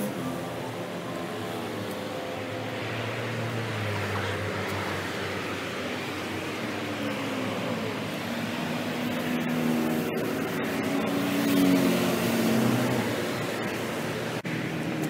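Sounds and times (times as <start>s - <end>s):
heavy vehicle engine: 0.0s - 15.0s
road traffic rushing: 0.0s - 15.0s.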